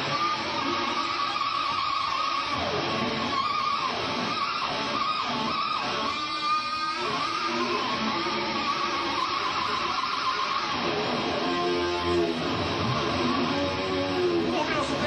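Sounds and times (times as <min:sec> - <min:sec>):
guitar sliding pitch dives: 0:00.0 - 0:15.0
live rock music: 0:00.0 - 0:15.0.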